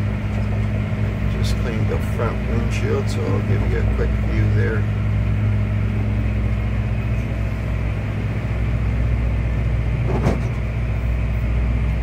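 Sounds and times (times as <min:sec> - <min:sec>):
tractor diesel engine drone: 0:00.0 - 0:12.0.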